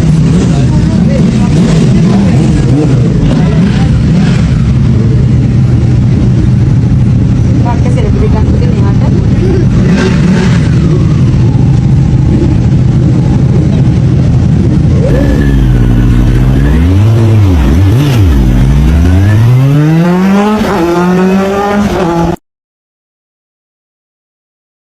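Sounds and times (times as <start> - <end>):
motorbike engine revving: 0.0 - 22.4.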